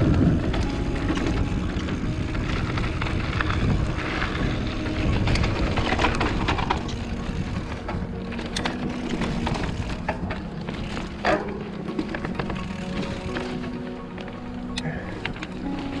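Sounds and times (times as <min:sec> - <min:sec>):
bike rattling over bumps: 0:00.0 - 0:16.0
bike tyres rumbling on dirt: 0:00.0 - 0:16.0.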